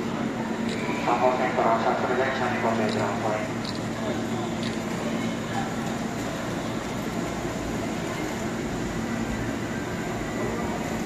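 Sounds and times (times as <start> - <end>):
station background noise: 0.0 - 11.0
train equipment hum and hiss: 0.0 - 11.0.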